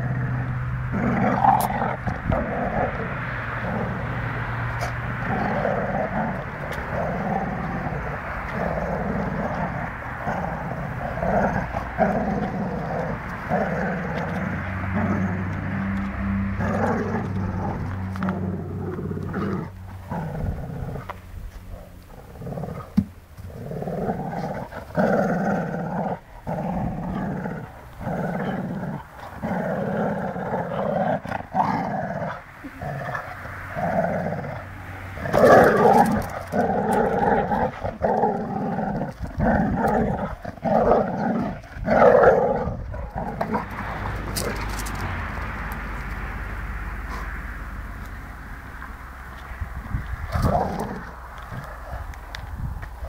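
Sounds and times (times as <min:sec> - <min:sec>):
dogs growling: 0:00.0 - 0:53.0.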